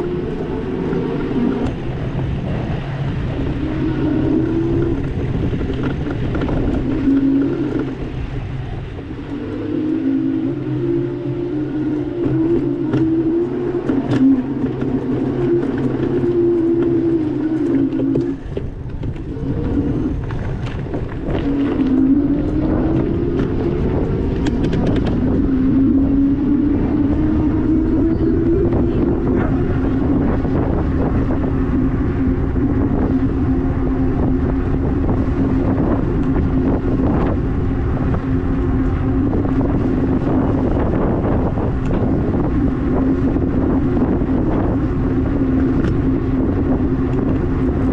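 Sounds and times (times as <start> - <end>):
e-bike hub motor whining: 0.0 - 47.9
tyres rumbling: 0.0 - 47.9
wind buffeting microphone: 0.0 - 47.9.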